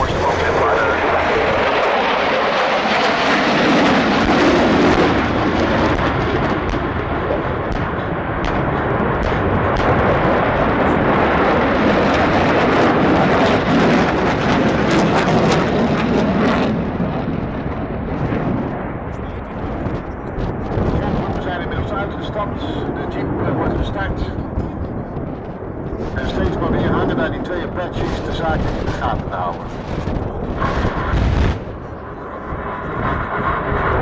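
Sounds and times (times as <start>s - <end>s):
jet engine noise: 0.0s - 34.0s.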